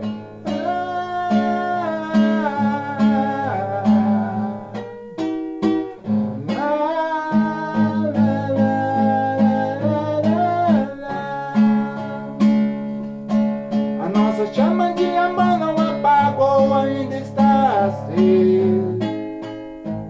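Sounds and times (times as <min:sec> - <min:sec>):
guitar-led instrumental music: 0:00.0 - 0:20.0.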